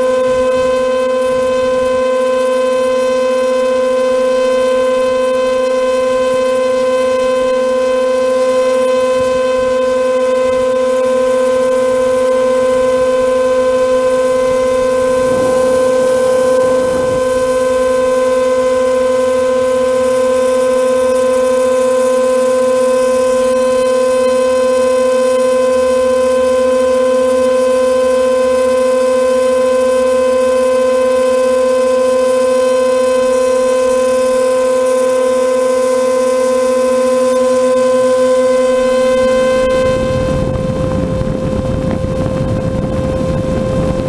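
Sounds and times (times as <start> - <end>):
electric propeller motors whining: 0.0 - 44.0.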